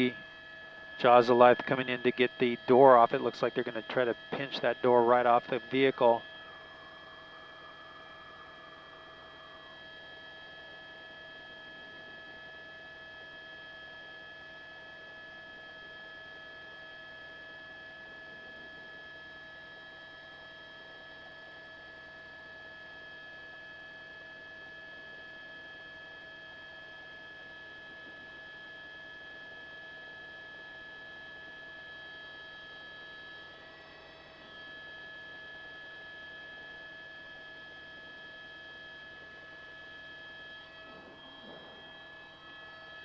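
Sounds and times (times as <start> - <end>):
faint high-toned hum: 0.0 - 43.0.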